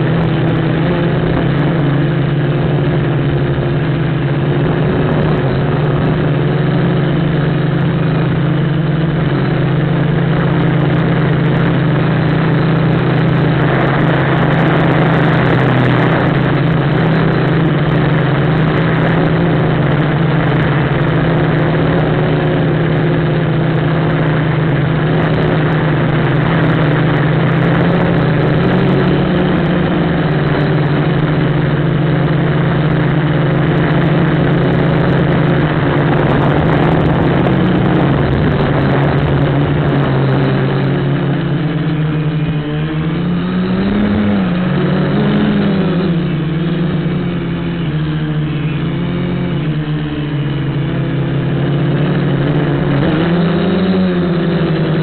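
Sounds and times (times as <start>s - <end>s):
quadcopter motors whirring: 0.0s - 55.0s
wind noise: 0.0s - 55.0s.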